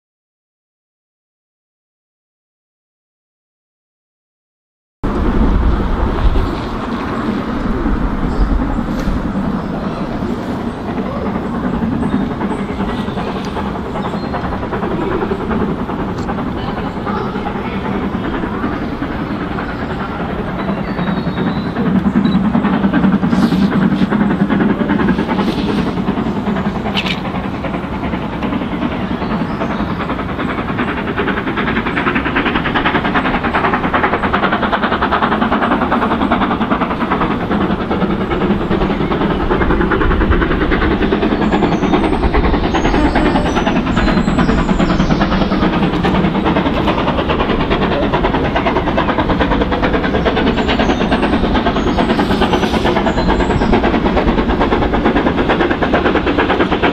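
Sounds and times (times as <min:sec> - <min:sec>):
deep locomotive rumble: 0:05.0 - 0:56.9
steam locomotive exhaust beats: 0:05.0 - 0:56.9.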